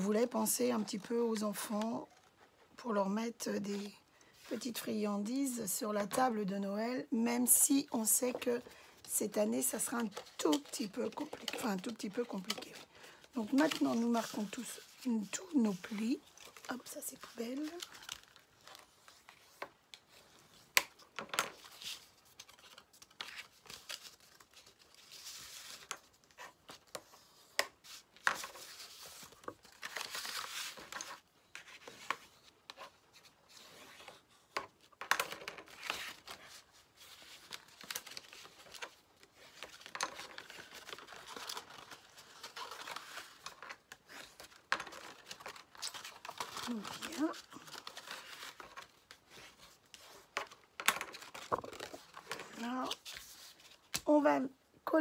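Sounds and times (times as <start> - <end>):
paper rustling and crackling: 7.8 - 54.2.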